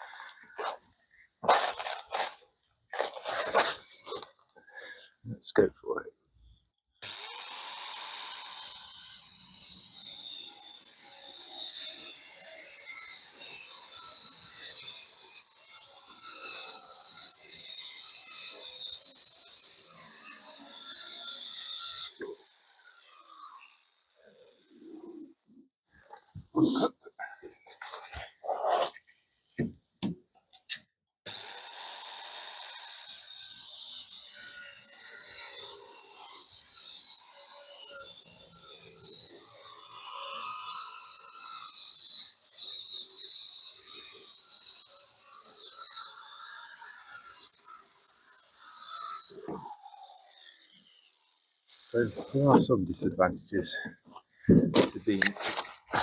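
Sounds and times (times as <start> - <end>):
circular saw cutting wood: 0.0 - 5.2, 7.0 - 29.7, 30.6 - 56.0.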